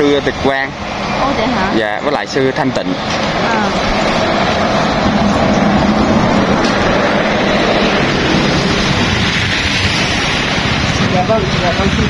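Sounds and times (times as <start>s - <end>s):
motorbikes and cars passing: 0.0s - 12.0s.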